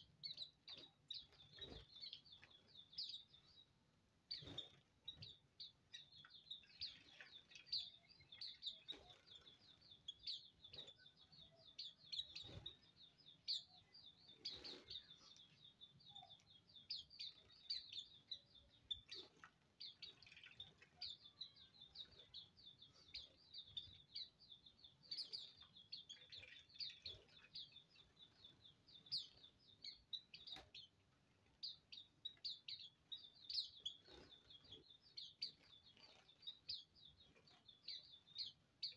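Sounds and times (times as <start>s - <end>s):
high thin bird chirps: 0.0s - 38.9s.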